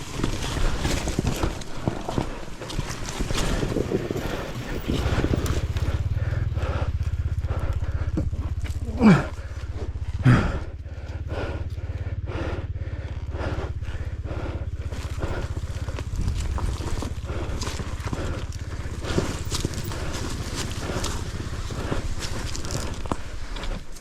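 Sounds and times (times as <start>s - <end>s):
dirt bike engine at low revs: 0.0s - 24.0s.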